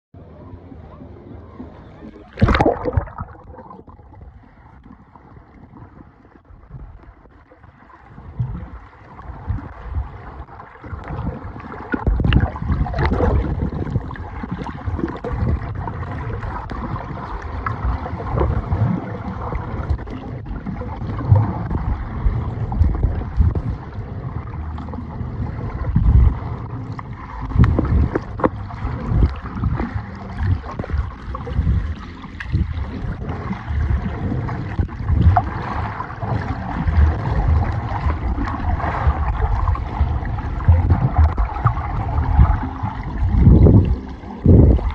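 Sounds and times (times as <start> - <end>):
river water rushing underwater: 1.7 - 44.9.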